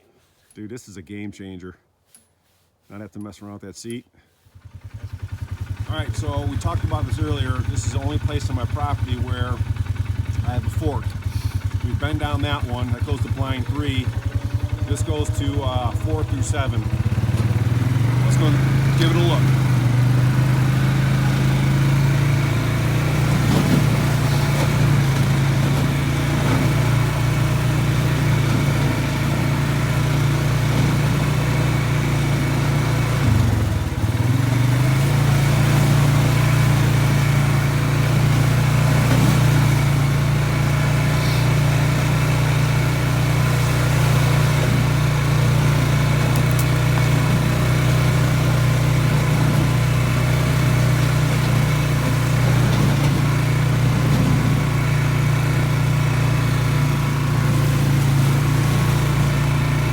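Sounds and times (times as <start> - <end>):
atv engine running: 4.4 - 59.9.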